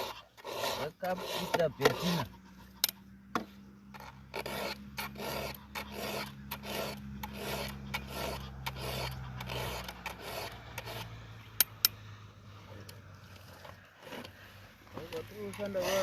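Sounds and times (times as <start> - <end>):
rhythmic rasping strokes: 0.0 - 12.0, 12.8 - 16.0.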